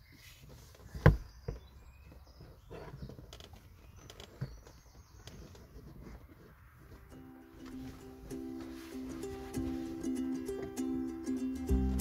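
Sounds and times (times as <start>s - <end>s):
shuffling and handling noise: 0.0s - 1.0s, 2.2s - 12.0s.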